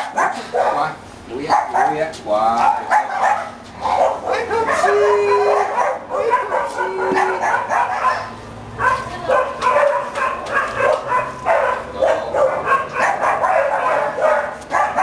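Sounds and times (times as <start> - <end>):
dog vocalizing: 2.6 - 15.0.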